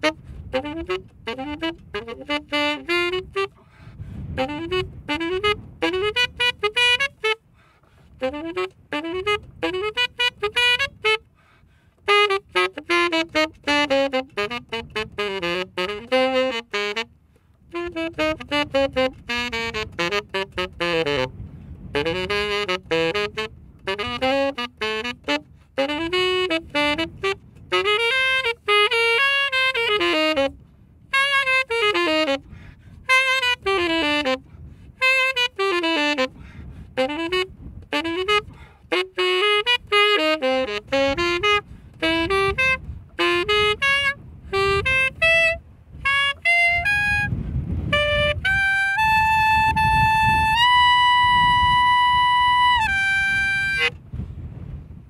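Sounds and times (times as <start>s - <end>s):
solo tenor saxophone: 0.0s - 55.0s.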